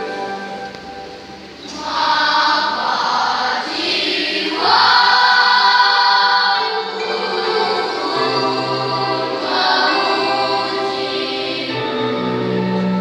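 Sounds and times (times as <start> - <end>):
choir singing: 1.6 - 13.0.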